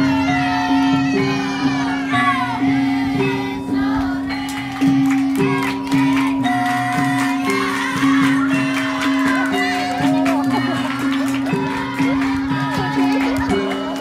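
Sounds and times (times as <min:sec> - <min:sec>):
gamelan-style dance music: 0:00.0 - 0:14.0.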